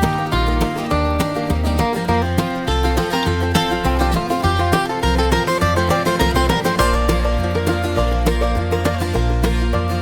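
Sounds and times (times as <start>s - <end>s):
plucked string instrumental music: 0.0s - 10.0s.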